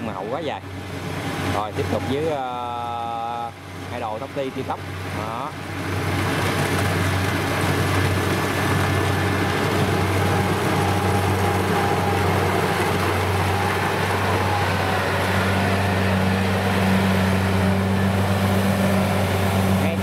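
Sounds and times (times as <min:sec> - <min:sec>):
combine harvester engine drone: 0:00.0 - 0:20.0
higher engine hum: 0:00.0 - 0:20.0.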